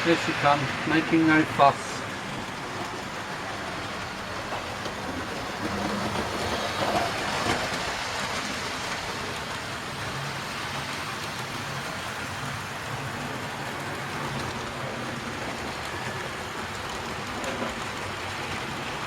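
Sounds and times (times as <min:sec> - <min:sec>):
model train rumbling and clattering: 0:00.0 - 0:19.0.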